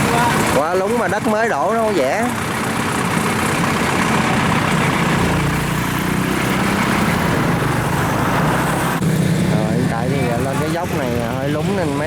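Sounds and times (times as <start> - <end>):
heavy farm machine engine: 0.0 - 12.0.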